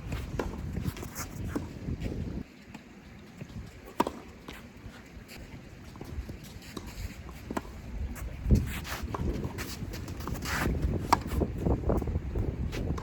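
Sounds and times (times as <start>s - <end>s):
wind rumbling on microphone: 0.0s - 2.5s, 4.8s - 13.0s.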